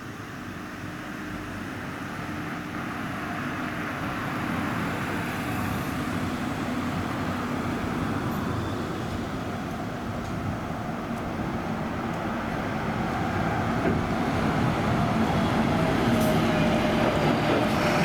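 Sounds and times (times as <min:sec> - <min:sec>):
road noise: 0:00.0 - 0:18.0
bus engine running: 0:00.1 - 0:18.0.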